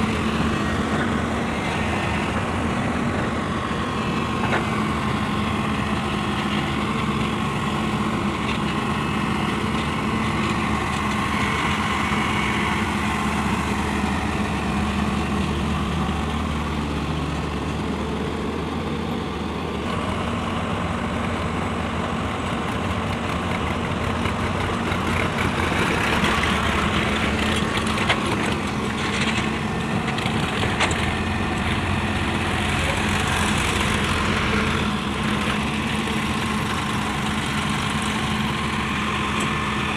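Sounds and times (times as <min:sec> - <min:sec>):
heavy diesel machinery humming: 0:00.0 - 0:39.9.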